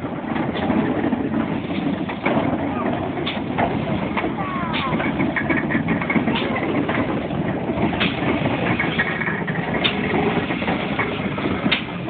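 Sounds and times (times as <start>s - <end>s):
steam locomotive: 0.0s - 12.0s.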